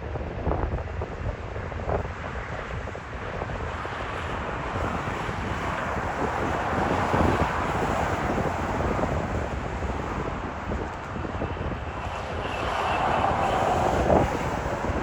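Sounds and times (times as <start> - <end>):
wind buffeting microphone: 0.0 - 15.0
jet airliner passing: 2.0 - 15.0.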